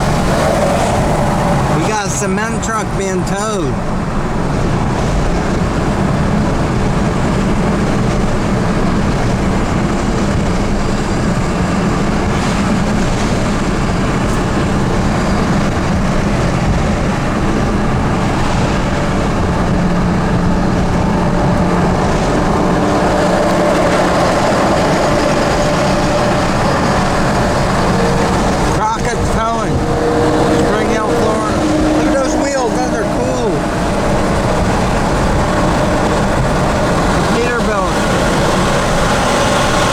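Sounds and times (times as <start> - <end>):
heavy vehicle driving: 0.0 - 39.9.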